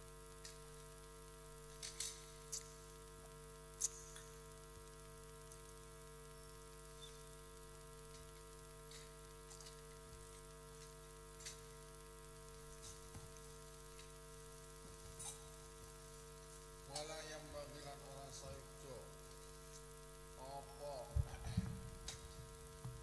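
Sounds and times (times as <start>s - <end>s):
faint electrical hum with hiss: 0.0s - 23.0s.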